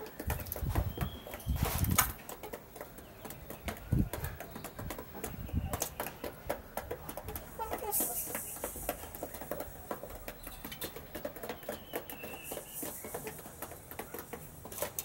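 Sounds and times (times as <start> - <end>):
chicks pecking feed from dish: 0.0 - 15.0.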